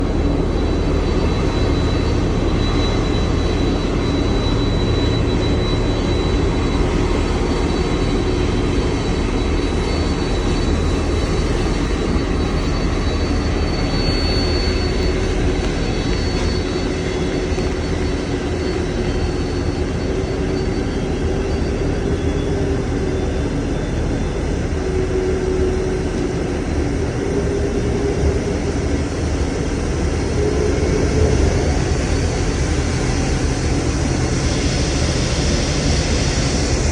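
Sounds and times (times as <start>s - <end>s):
faint high whine: 0.0s - 36.9s
jet engines running: 0.0s - 36.9s.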